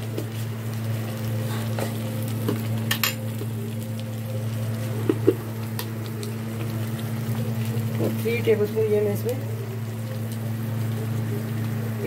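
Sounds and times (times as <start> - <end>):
onion paste frying in oil: 0.0 - 12.0
steady low hum: 0.0 - 12.0.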